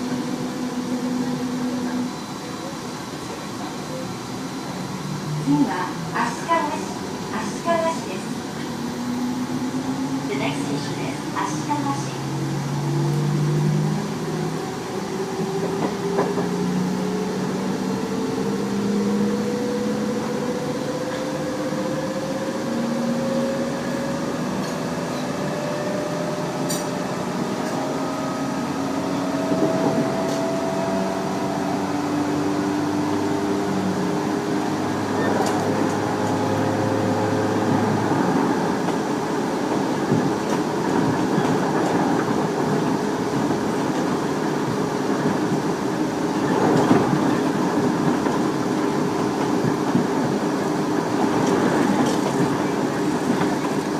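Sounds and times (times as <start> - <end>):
wheels rumbling on rail: 0.0 - 53.9.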